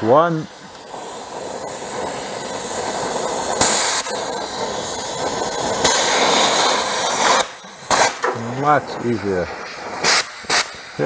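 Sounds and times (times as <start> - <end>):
cutting torch hissing: 0.0 - 11.0
torch rushing blasts: 0.0 - 11.0.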